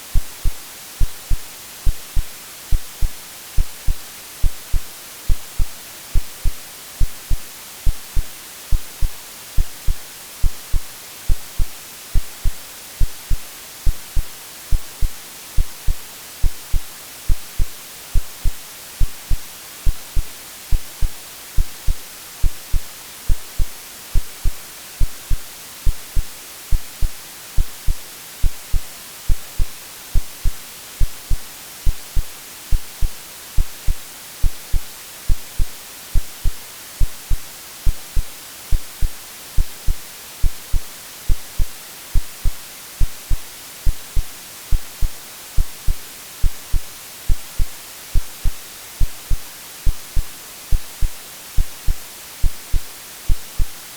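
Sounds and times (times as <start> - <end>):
white noise hiss: 0.0 - 53.9
heartbeat thumps: 0.1 - 53.8.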